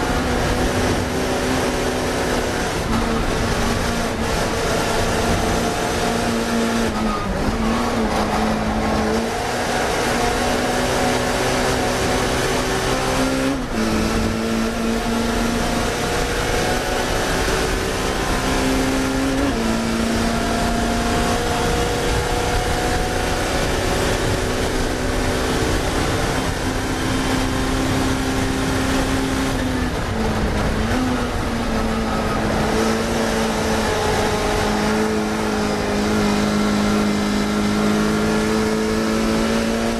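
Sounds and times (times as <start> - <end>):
racing car engine at high revs: 0.0 - 39.9
road and wind noise: 0.0 - 39.9.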